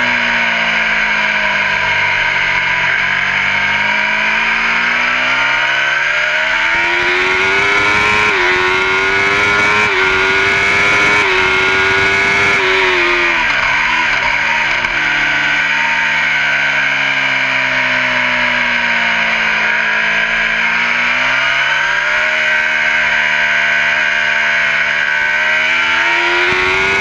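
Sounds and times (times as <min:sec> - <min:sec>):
racing motorcycle engine revving: 0:00.0 - 0:27.0.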